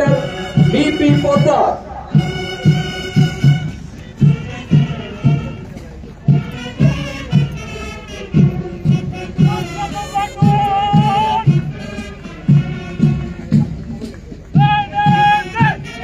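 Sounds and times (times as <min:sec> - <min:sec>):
heavy drum beat: 0:00.0 - 0:16.0
marching band music: 0:00.0 - 0:16.0.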